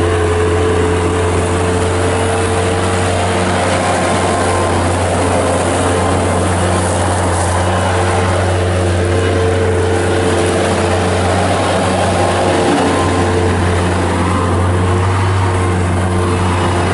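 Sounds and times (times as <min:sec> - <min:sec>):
diesel engine droning: 0:00.0 - 0:16.9.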